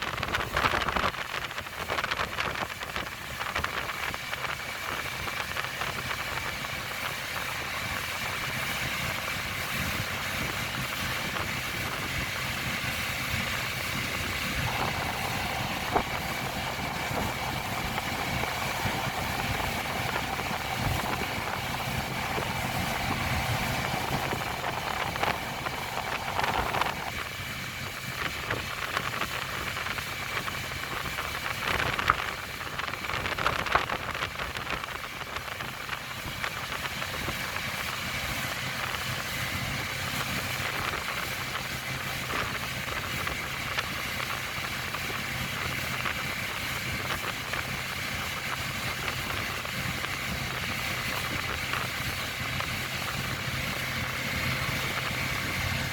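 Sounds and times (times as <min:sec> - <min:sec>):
boat engine running: 0:00.0 - 0:55.9
rushing water and wind: 0:00.0 - 0:55.9.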